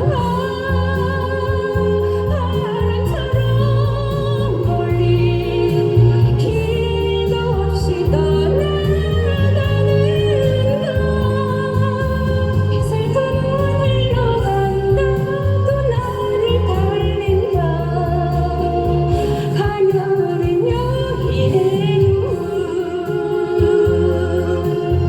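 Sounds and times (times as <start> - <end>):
instrumental backing track: 0.0 - 25.0
person singing with vibrato: 0.0 - 25.0.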